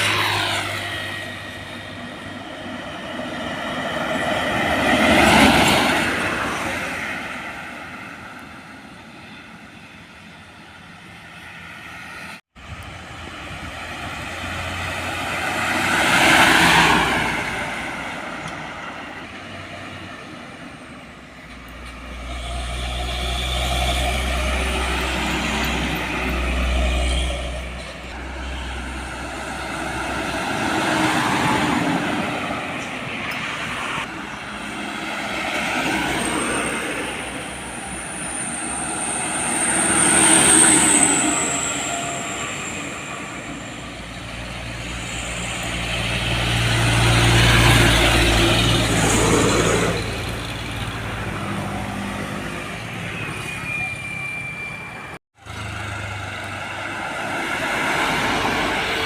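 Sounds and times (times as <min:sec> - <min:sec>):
trucks and traffic passing: 0:00.0 - 0:59.0.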